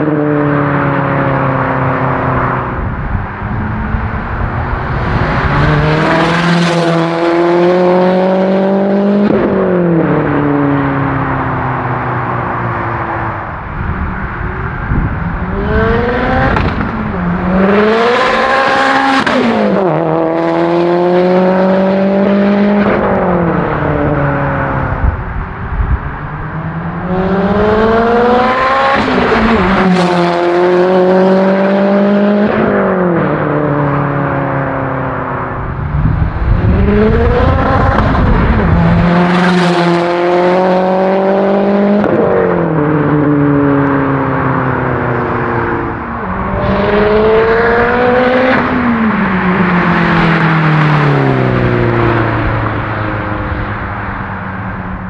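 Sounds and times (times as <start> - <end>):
car engine accelerating hard: 0.0 - 54.7.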